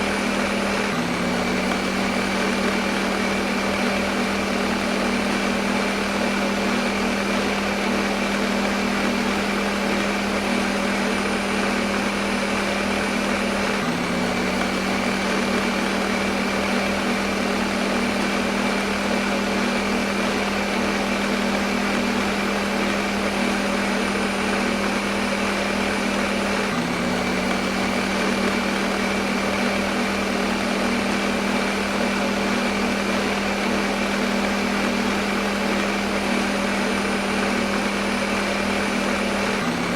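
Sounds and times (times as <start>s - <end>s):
blender motor running: 0.0s - 39.9s.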